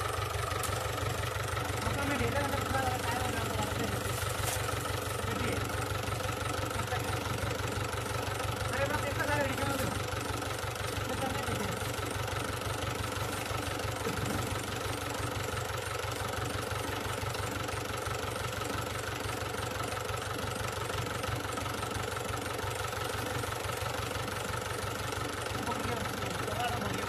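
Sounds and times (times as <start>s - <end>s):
tractor diesel engine idling: 0.0s - 27.0s.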